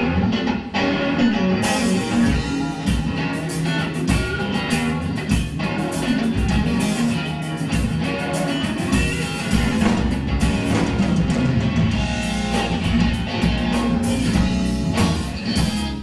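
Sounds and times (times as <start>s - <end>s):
bass guitar: 0.0s - 16.0s
drums: 0.0s - 16.0s
electric guitar leading: 0.0s - 16.0s.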